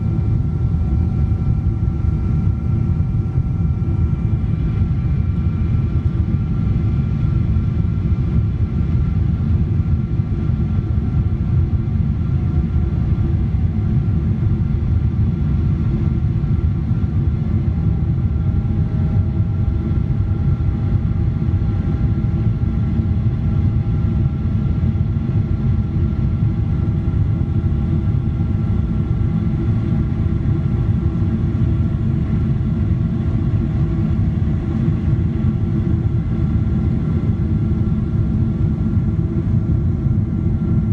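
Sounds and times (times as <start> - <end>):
jet engines rumbling and whining: 0.0 - 40.9.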